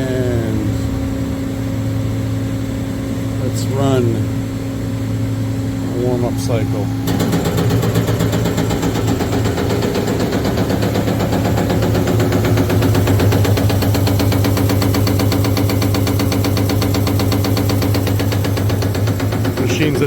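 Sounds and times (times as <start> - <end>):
hydraulic pump hum: 0.0 - 20.0.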